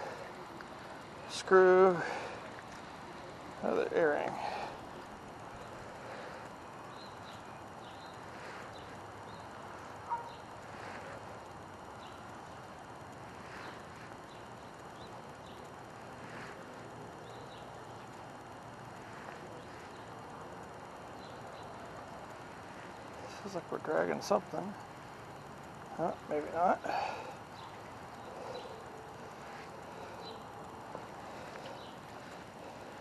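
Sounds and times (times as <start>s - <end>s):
faint outdoor background noise: 0.0s - 33.0s.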